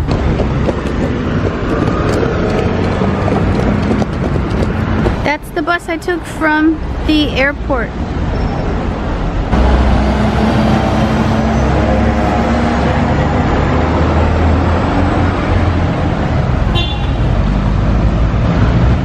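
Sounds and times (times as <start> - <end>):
bus engine running: 0.0 - 19.0
street traffic noise: 0.0 - 19.0.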